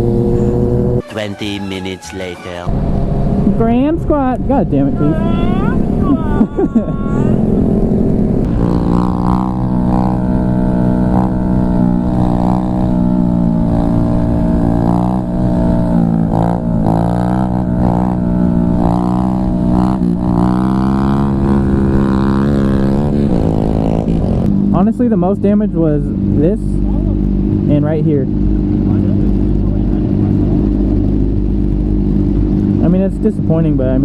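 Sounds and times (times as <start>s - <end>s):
small motorcycle engine running: 2.7s - 34.0s
wind rumble on microphone: 2.7s - 34.0s.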